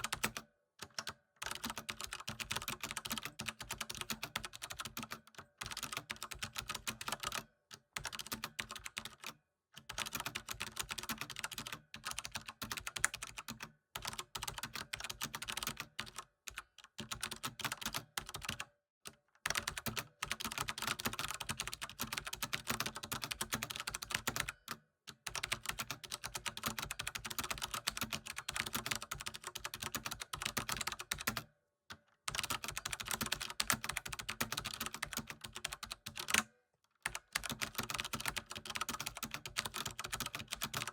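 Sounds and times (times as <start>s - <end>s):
computer keyboard typing: 0.0s - 7.4s, 8.0s - 18.7s, 19.4s - 31.5s, 32.3s - 40.9s.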